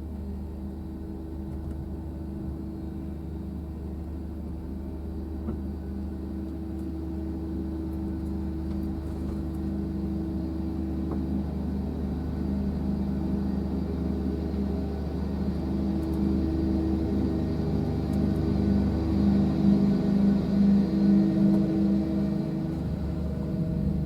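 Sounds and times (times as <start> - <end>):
constant humming tone: 0.0 - 24.0
diesel train drone: 0.0 - 24.0.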